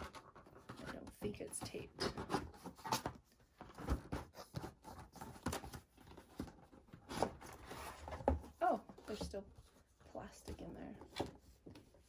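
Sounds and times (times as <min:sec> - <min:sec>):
cardboard rubbing and scraping: 0:00.0 - 0:12.0.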